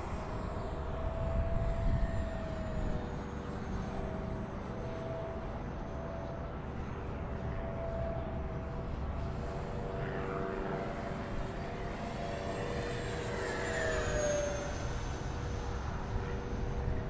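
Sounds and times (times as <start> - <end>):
model jet fans whining: 0.0 - 17.0.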